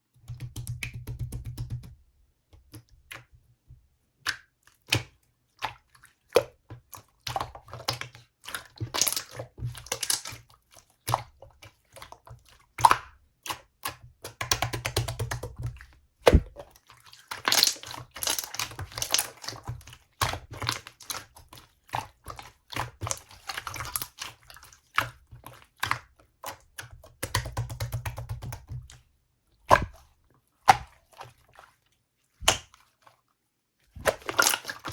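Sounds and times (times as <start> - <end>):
slime squishing by hand: 4.1 - 33.2, 33.9 - 34.9.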